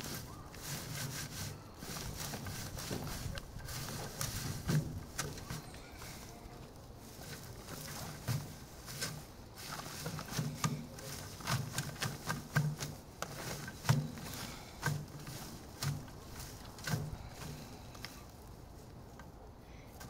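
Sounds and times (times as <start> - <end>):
dry stalks rustling and crackling: 0.0 - 20.0.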